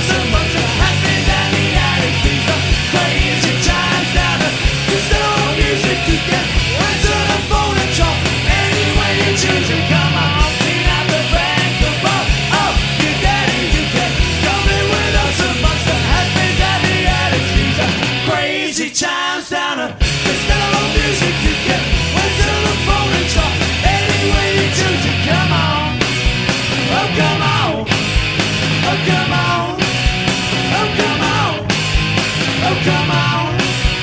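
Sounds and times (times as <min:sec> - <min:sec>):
driving drum beat: 0:00.0 - 0:18.6, 0:20.0 - 0:34.0
bass guitar: 0:00.0 - 0:18.7, 0:20.0 - 0:34.0
distorted electric guitars: 0:00.0 - 0:18.8, 0:19.9 - 0:34.0
person singing lead vocal: 0:00.0 - 0:26.1, 0:26.8 - 0:31.9, 0:32.5 - 0:34.0.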